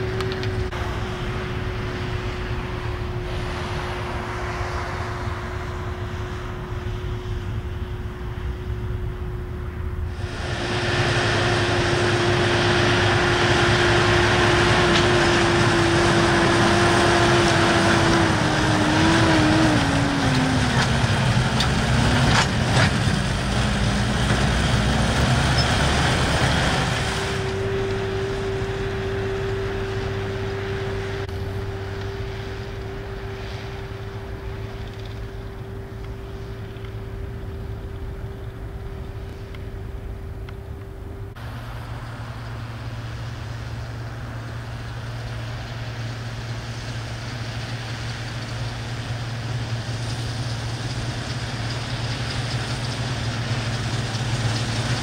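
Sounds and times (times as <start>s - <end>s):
spreader gear whine: 0.0s - 55.0s
tractor engines under load: 0.0s - 55.0s.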